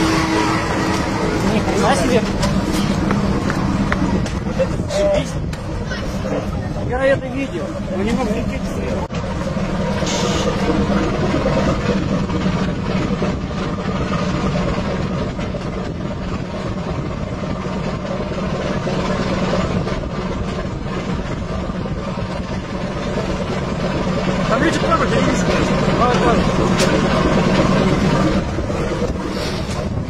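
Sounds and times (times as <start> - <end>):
ship engine droning: 0.0 - 30.0.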